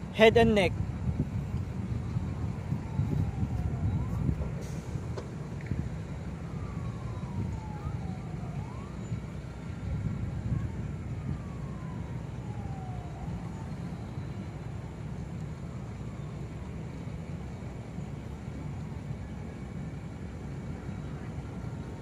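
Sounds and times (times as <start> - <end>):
faint distant siren wailing: 0.0 - 22.0
steady low rumble: 0.0 - 22.0.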